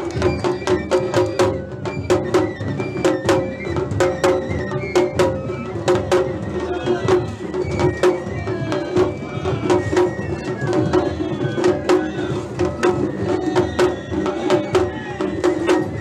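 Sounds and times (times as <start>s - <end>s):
drum beaten with sticks: 0.0s - 16.0s.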